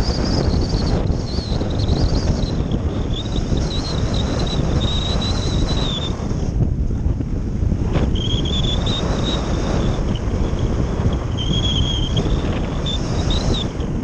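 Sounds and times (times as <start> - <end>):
thin high whistle: 0.0 - 6.4, 8.1 - 13.9
wind rushing on microphone: 0.0 - 14.0.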